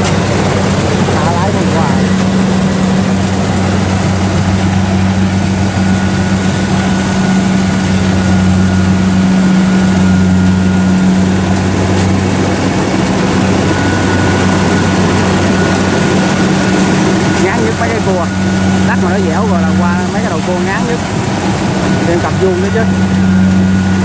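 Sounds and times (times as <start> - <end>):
combine harvester engine running: 0.0 - 24.0
faint high whine: 1.0 - 24.0.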